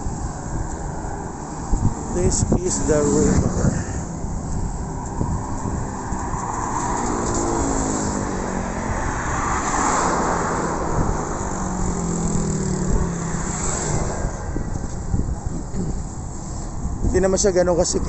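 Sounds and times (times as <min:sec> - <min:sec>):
vehicles passing on a bridge: 0:00.0 - 0:18.0.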